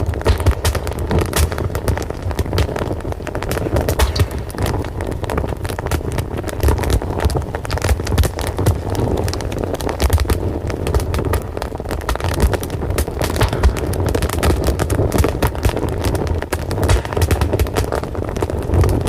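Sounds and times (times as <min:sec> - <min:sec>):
fire crackling and popping: 0:00.0 - 0:19.0
low rumble of burning: 0:00.0 - 0:19.0.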